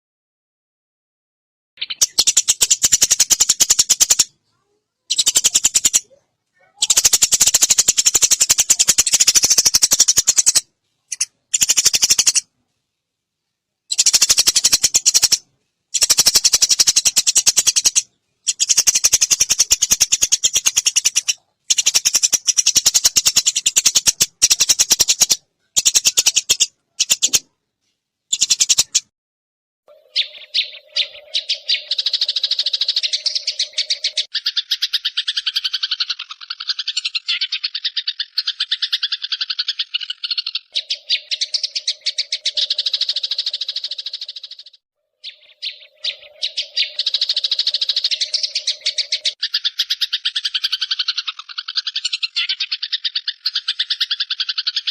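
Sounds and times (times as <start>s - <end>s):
songbird rattling trills: 1.8s - 4.3s, 5.1s - 6.1s, 6.8s - 12.5s, 13.9s - 27.5s, 28.3s - 29.1s, 30.0s - 54.9s.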